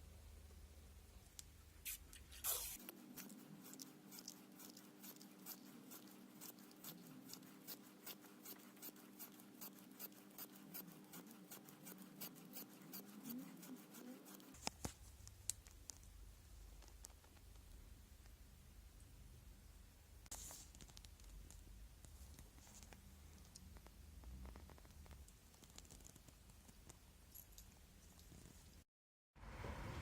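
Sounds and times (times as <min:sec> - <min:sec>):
faint steady hum: 0:00.0 - 0:28.8.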